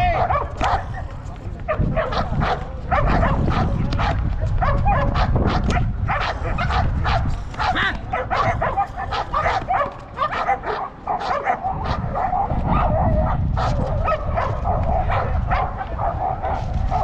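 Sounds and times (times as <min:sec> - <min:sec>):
dog barking: 0:00.0 - 0:01.0, 0:01.7 - 0:17.0.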